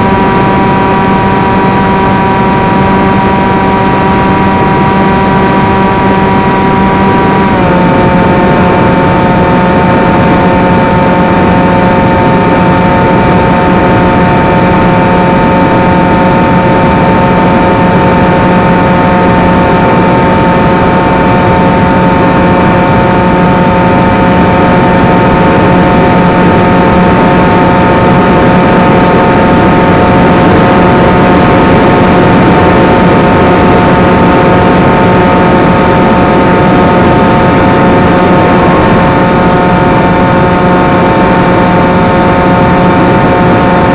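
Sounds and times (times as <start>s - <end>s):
electric motor whine: 0.0s - 43.9s.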